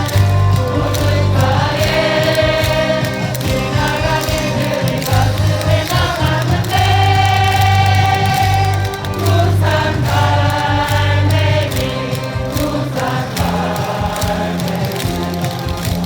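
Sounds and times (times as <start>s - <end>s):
crowd singing a cheer song: 0.0s - 16.0s
loud amplified backing music: 0.0s - 16.0s.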